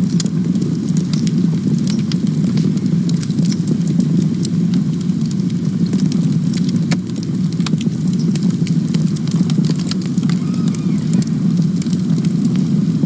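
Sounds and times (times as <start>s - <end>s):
campfire crackling and popping: 0.0s - 13.0s
low rumble of burning: 0.0s - 13.0s.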